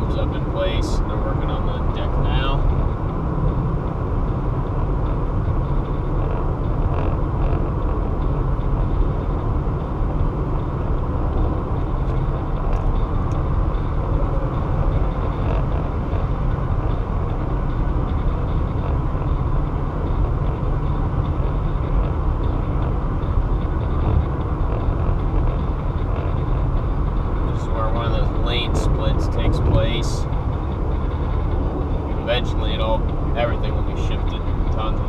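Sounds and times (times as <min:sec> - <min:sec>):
car road and tyre noise: 0:00.0 - 0:35.0.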